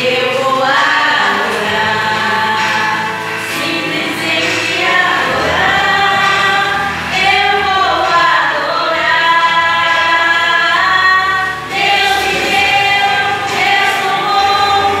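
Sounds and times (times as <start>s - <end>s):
women singing gospel song: 0.0s - 15.0s.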